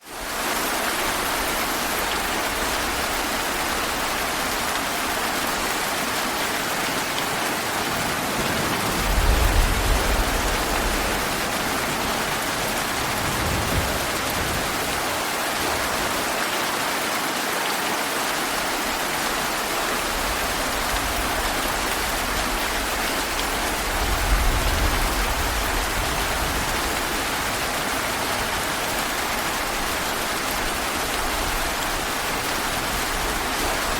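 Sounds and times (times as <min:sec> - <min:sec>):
heavy rain on foliage: 0:00.0 - 0:33.9.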